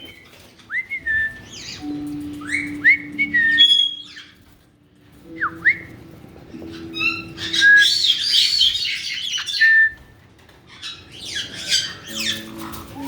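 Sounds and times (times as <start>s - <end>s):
parrots chattering and squawking: 0.0s - 2.8s, 3.5s - 5.2s, 6.5s - 13.0s.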